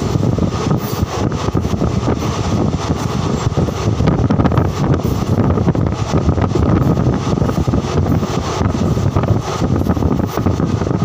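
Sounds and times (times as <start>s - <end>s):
train running noise: 0.0s - 11.0s
wind buffeting microphone: 0.0s - 11.0s.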